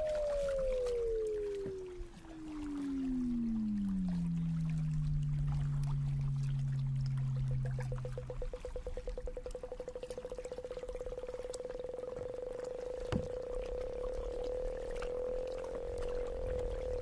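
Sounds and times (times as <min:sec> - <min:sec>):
pulsing electronic tone: 0:00.0 - 0:17.0.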